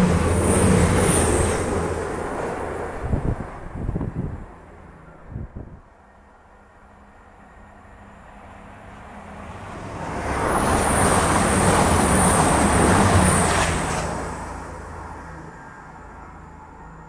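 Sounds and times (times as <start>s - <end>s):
diesel train rumble: 0.0s - 5.7s, 6.9s - 17.0s.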